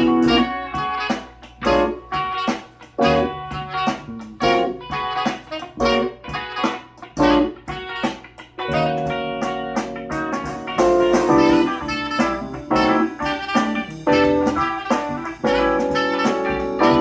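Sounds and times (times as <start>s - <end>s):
plucked electric guitar music: 0.0s - 17.0s.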